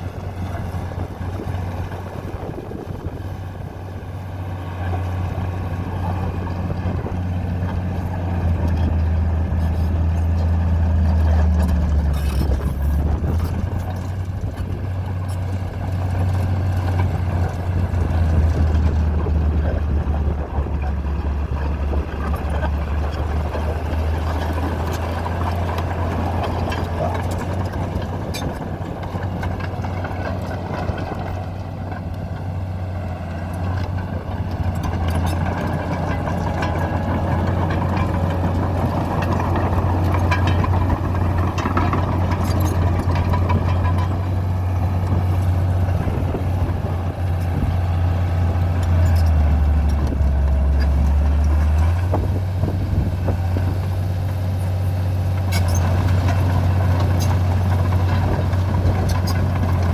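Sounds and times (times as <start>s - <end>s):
bulldozer diesel engine droning: 0.0s - 59.9s.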